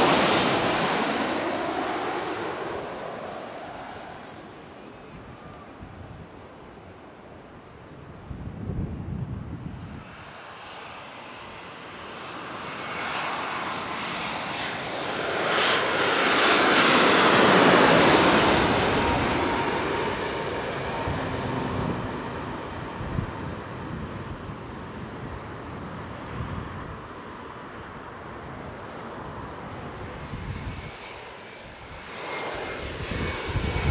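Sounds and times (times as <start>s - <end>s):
jet airliner passing overhead: 0.0s - 33.9s.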